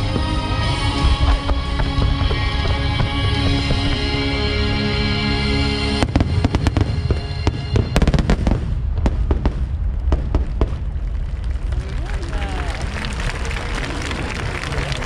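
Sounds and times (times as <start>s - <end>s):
fireworks bangs and crackles: 0.0s - 4.6s, 6.0s - 15.0s.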